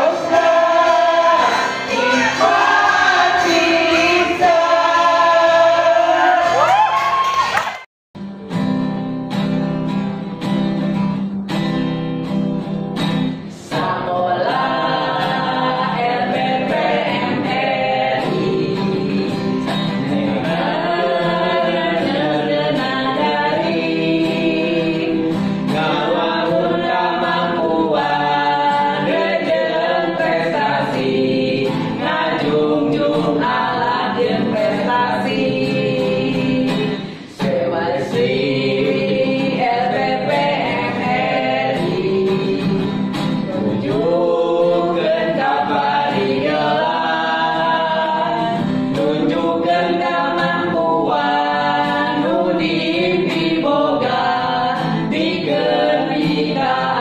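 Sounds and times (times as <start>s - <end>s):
group of voices singing: 0.0s - 7.0s, 13.4s - 57.0s
acoustic guitar: 0.0s - 57.0s.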